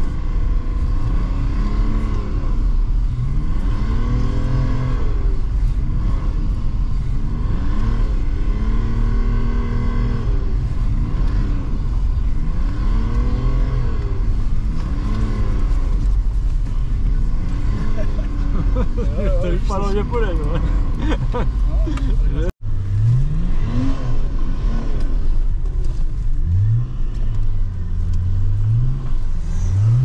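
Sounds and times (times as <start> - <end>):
diesel car engine revving: 0.0 - 30.0.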